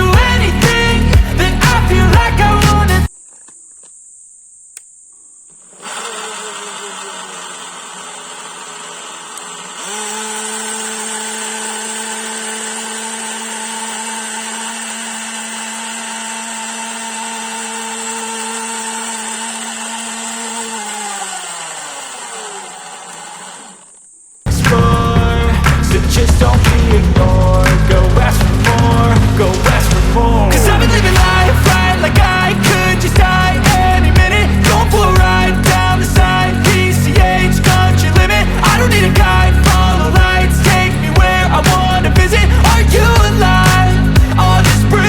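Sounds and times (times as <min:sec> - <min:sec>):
mixer grinder motor: 0:00.0 - 0:03.1, 0:05.5 - 0:45.0.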